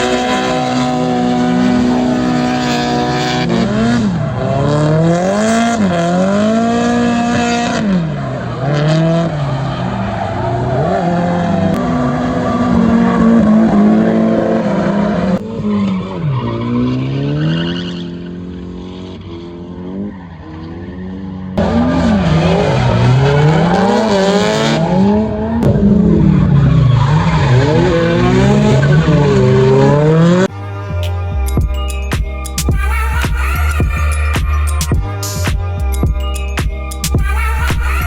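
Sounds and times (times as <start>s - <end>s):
race car engines revving: 0.0s - 38.0s.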